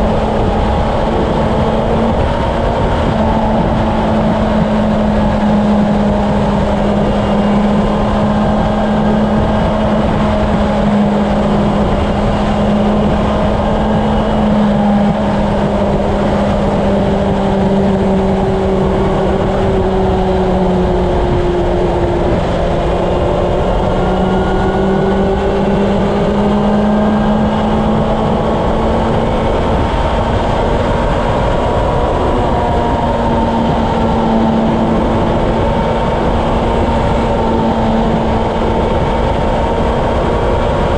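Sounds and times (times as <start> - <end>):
motorcycle engine running: 0.0 - 40.9
wind on microphone: 0.0 - 40.9.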